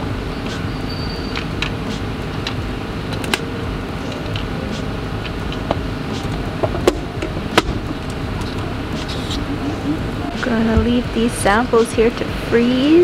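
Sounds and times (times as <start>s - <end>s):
air handling rumble: 0.0s - 13.0s.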